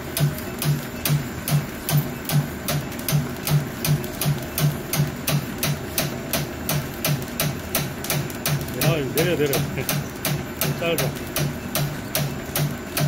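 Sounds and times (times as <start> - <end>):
machine pulsing hum and click: 0.0 - 13.0.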